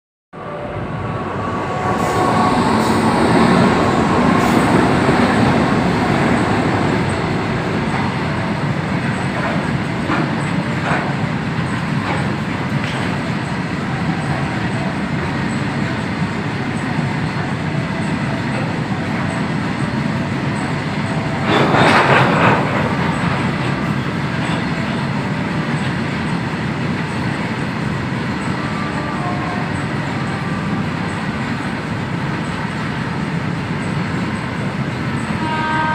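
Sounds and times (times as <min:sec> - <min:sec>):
train wheels rumbling on track: 0:00.4 - 0:35.9.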